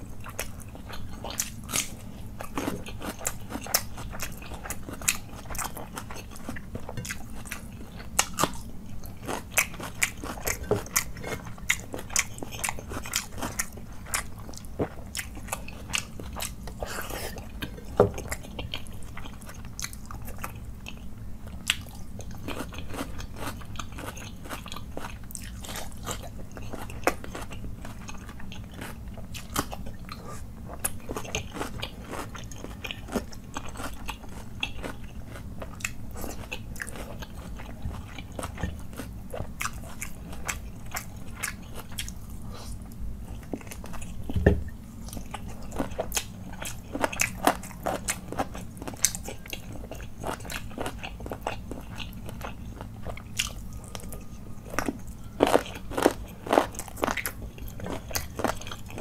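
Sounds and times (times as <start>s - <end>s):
close chewing: 0.0s - 44.4s, 45.0s - 59.0s.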